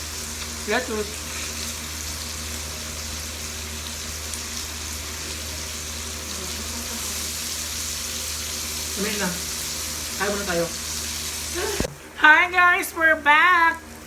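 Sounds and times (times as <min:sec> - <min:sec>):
food sizzling on grill pan: 0:00.0 - 0:11.9.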